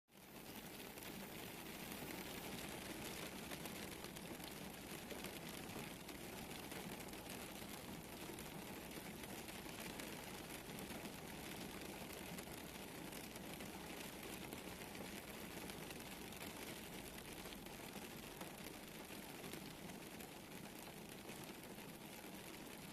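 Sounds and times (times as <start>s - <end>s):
rain patter: 0.1s - 22.9s.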